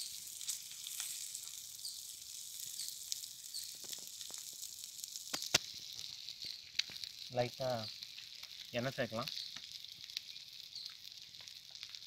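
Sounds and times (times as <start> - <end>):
oil sizzling in a pan: 0.0 - 12.0
small crackles and pops: 0.0 - 12.0.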